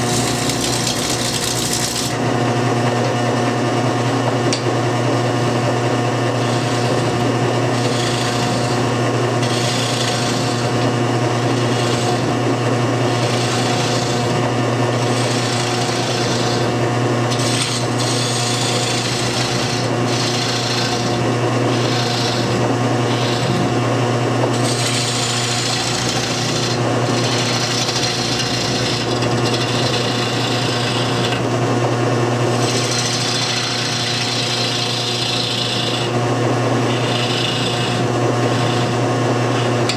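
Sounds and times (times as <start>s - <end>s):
lathe motor hum: 0.0s - 39.9s
tool shaving wood: 0.0s - 39.9s.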